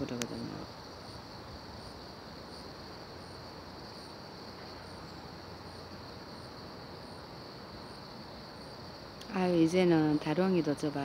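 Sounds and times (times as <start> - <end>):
insect chirps: 0.0 - 11.0
insect high-pitched trill: 0.0 - 11.0.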